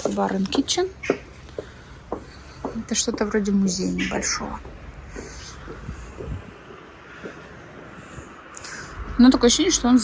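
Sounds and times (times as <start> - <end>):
steady low street rumble: 0.0 - 10.0.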